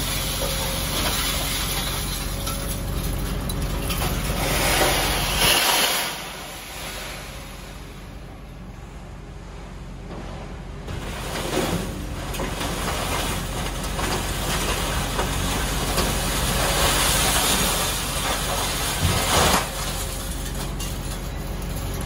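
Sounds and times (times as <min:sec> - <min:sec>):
scrap metal scraping and clattering: 0:00.0 - 0:08.1, 0:10.1 - 0:22.0
diesel engine and hydraulics: 0:00.0 - 0:22.0.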